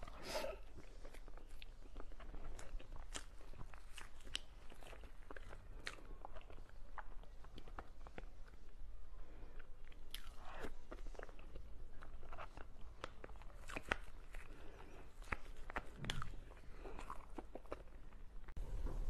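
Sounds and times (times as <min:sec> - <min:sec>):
wet chewing and mouth noises: 0:00.0 - 0:18.6.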